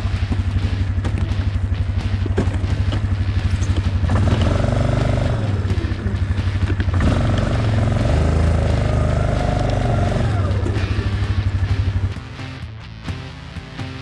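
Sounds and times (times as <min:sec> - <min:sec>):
atv engine puttering: 0:00.0 - 0:12.6
steady whine: 0:00.0 - 0:13.7.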